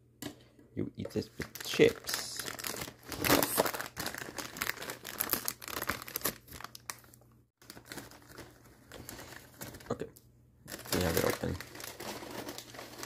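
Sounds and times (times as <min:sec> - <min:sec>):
plastic chip bags crinkling: 0:01.1 - 0:10.1, 0:10.7 - 0:13.0.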